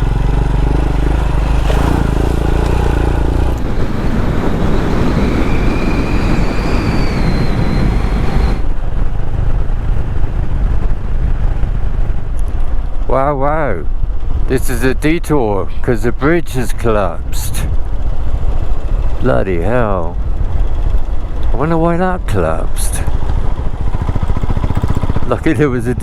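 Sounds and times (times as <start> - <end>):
motorcycle engine running: 0.0 - 14.6, 17.6 - 26.0
rushing wind: 0.0 - 26.0.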